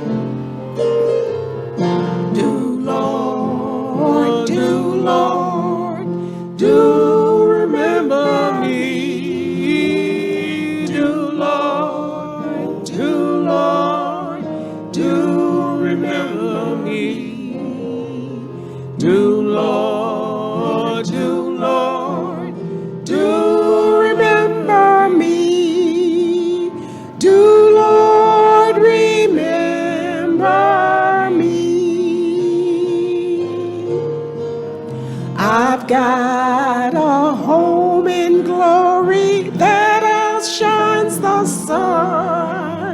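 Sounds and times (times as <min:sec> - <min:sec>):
vocal quartet singing gospel: 0:00.0 - 0:00.6, 0:01.5 - 0:42.9
low musical accompaniment: 0:00.0 - 0:42.9.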